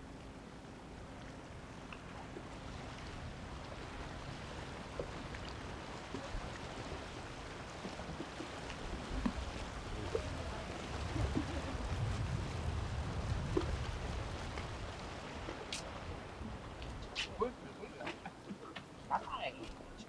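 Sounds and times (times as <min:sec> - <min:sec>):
seawater lapping against quay: 0:00.0 - 0:20.0.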